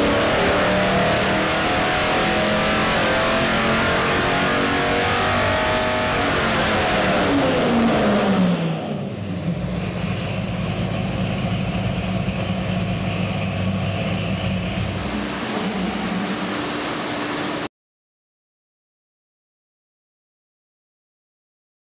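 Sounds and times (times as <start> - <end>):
car engine revs falling to idle: 0.0 - 17.7.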